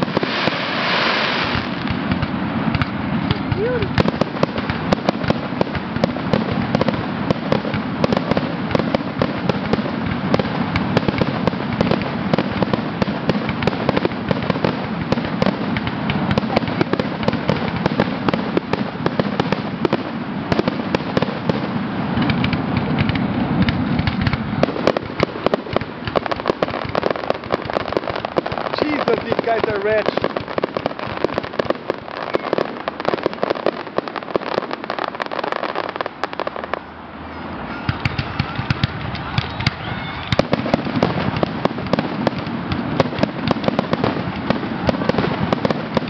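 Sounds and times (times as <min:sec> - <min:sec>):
fireworks bursting: 0:00.0 - 0:46.0
fireworks rumble and crackle: 0:00.0 - 0:46.0.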